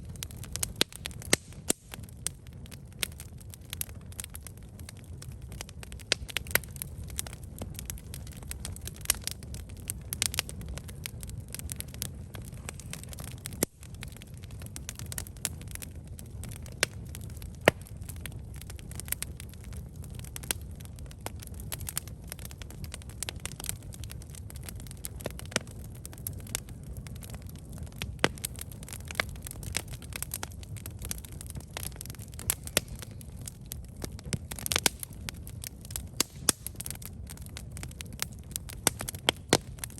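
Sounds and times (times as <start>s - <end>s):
campfire flames rumbling: 0.0s - 39.9s
fire crackling and popping: 0.0s - 39.9s.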